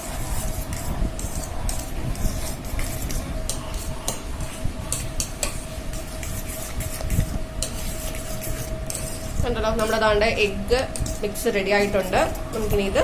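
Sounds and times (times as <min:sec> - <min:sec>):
faint steady hum: 0:00.0 - 0:13.0
spoon scraping a bowl: 0:00.0 - 0:13.0.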